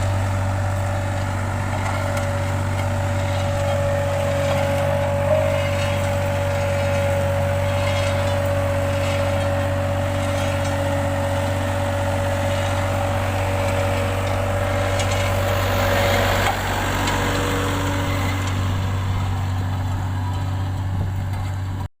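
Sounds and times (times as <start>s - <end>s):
road roller engine running: 0.0s - 21.9s.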